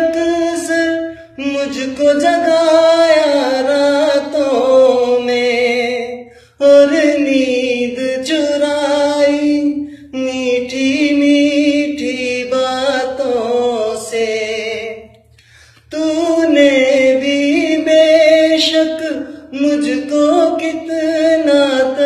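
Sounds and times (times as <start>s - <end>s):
man singing unaccompanied: 0.0s - 15.2s, 15.9s - 22.0s.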